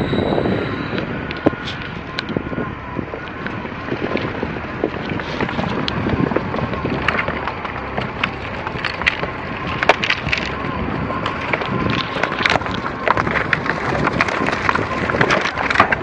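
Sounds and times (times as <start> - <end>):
tyres rumbling: 0.0 - 16.0
wood cracking under wheels: 0.9 - 16.0.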